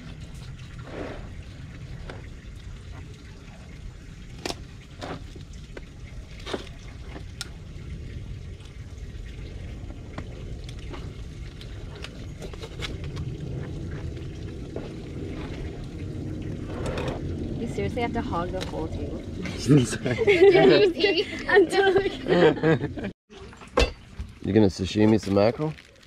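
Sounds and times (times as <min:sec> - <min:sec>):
steady low rumble: 0:00.0 - 0:23.1.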